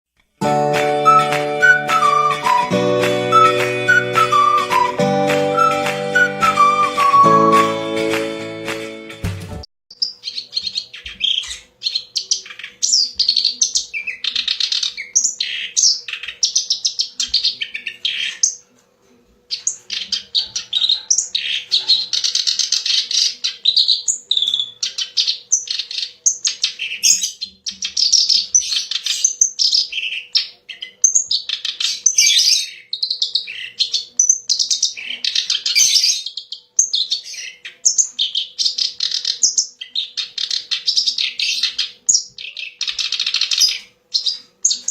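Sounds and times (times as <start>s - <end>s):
warbler singing chattering song: 0.6s - 8.2s, 9.9s - 18.6s, 19.5s - 44.9s.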